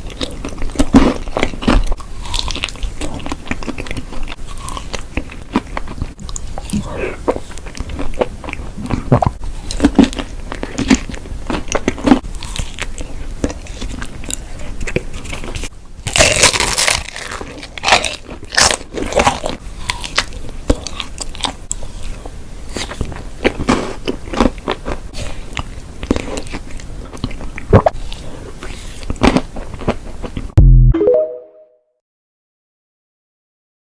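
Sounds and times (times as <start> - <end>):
crunchy chewing: 0.0 - 30.5.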